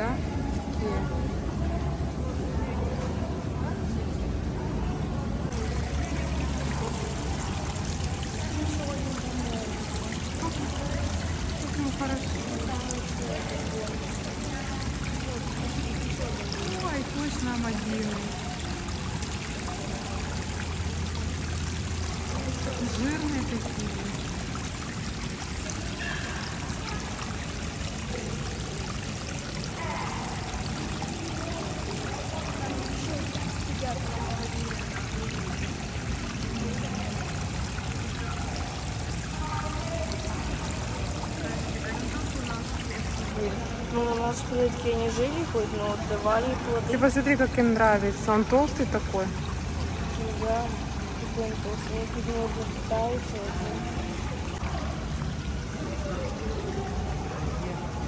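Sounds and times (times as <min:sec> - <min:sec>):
stream trickling over rocks: 0:05.2 - 0:58.0.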